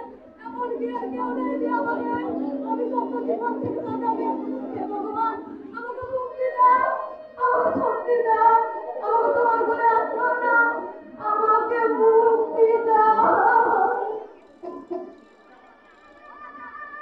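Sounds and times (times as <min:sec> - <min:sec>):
person singing unaccompanied: 0:00.0 - 0:14.4.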